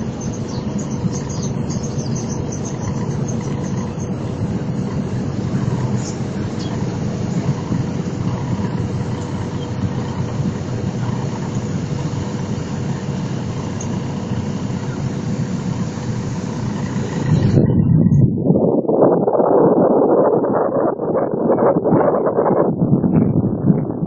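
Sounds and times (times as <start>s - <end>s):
faint steady hum: 0.0s - 24.0s
ferry engines droning: 0.0s - 24.0s.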